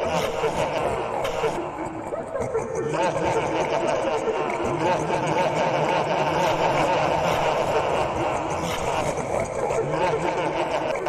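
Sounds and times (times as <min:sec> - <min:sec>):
overlapping voices and snickering: 0:00.0 - 0:11.0.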